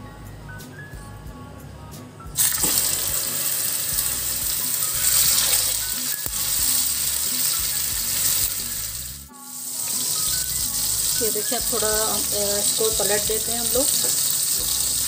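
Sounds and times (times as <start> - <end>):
burger patties sizzling in oil: 2.4 - 15.0.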